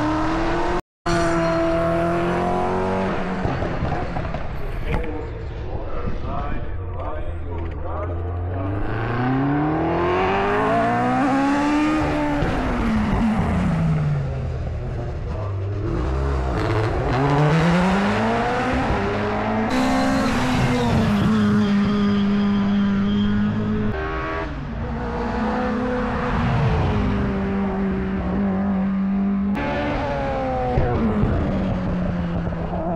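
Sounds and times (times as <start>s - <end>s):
racing car engines revving: 0.0s - 32.9s.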